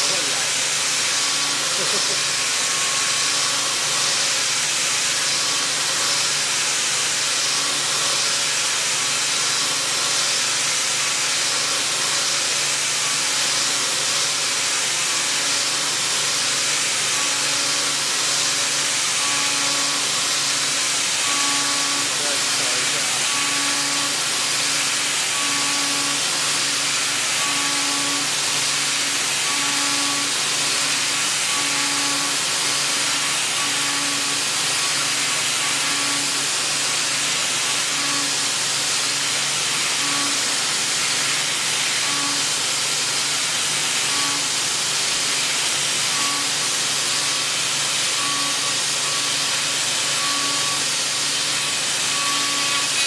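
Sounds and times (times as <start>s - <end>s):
milling machine hissing: 0.0s - 53.0s.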